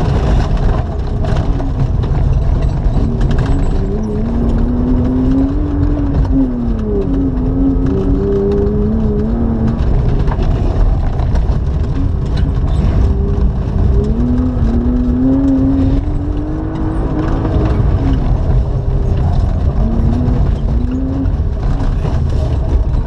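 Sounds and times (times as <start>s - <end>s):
car engine revving: 0.0s - 23.0s
tyres rumbling on gravel: 0.0s - 23.0s.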